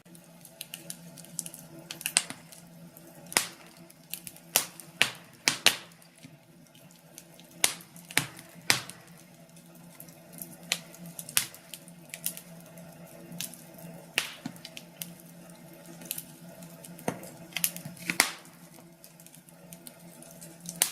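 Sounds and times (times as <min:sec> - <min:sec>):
faint steady hum: 0:00.0 - 0:20.9
wood fire crackling and popping: 0:00.0 - 0:20.9.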